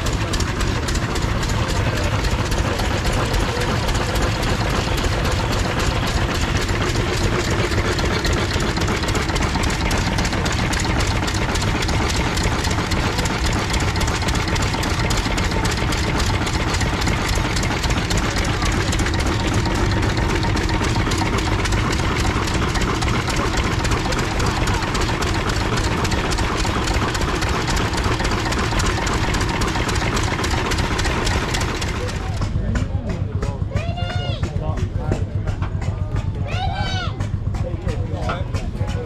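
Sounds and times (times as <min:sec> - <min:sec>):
stationary engine idling: 0:00.0 - 0:39.0.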